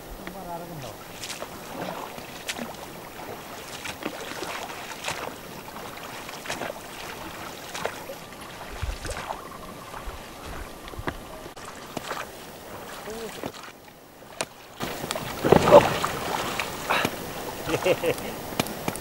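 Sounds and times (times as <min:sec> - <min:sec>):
oars splashing in water: 0:00.0 - 0:19.0.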